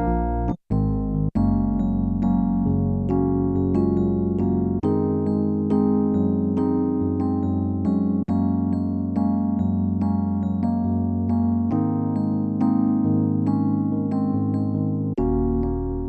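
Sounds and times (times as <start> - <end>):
electric piano playing: 0.0 - 16.0.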